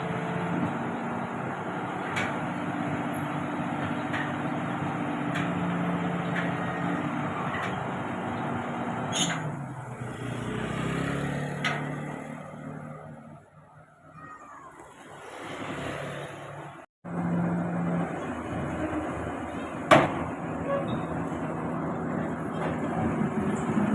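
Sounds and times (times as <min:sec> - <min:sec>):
diesel engine running: 0:00.0 - 0:13.8, 0:16.1 - 0:23.9.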